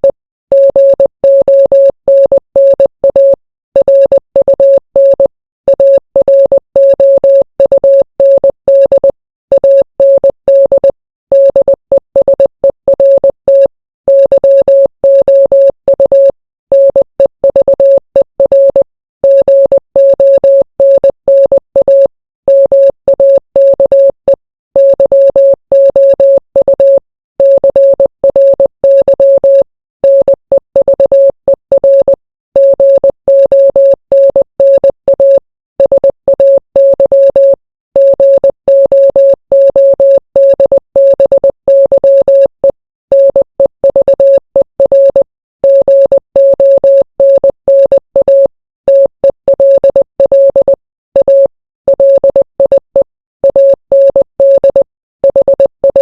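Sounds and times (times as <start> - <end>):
morse code beeps: 0.0 - 56.0.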